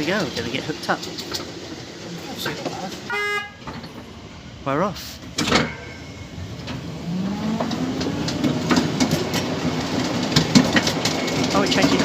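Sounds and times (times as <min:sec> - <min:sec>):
wheels clicking over rail joints: 0:00.0 - 0:04.2, 0:05.0 - 0:12.0
train drive whine rising: 0:00.0 - 0:12.0.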